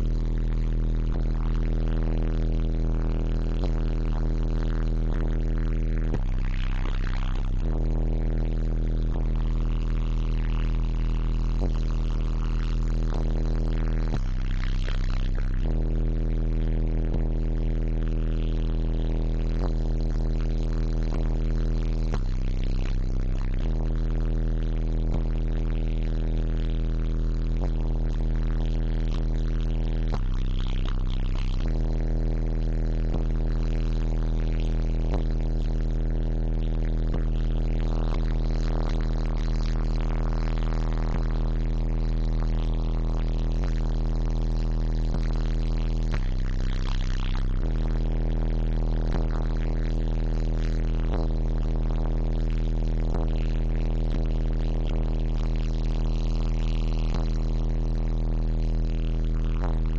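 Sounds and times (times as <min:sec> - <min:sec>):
loud bass-heavy music: 0:00.0 - 0:59.9.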